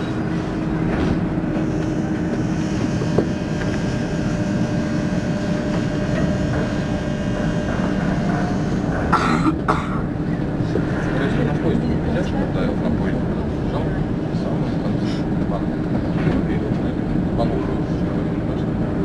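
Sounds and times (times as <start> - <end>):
monorail car rumble: 0.0 - 19.0.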